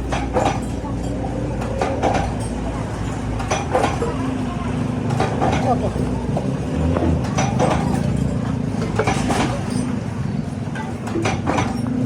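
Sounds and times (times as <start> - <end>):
sharp knocks and clanks: 0.0 - 12.0
workshop machinery humming: 0.0 - 12.0.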